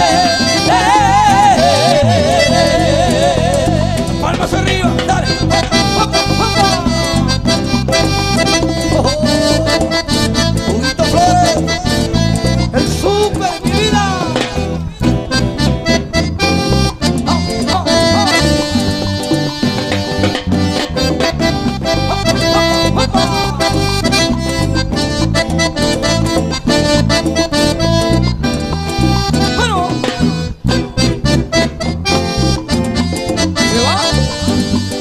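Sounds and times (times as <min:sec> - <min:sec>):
busy percussion: 0:00.0 - 0:35.0
melodic lead with bending notes: 0:00.0 - 0:35.0
steady bass beat: 0:00.0 - 0:35.0.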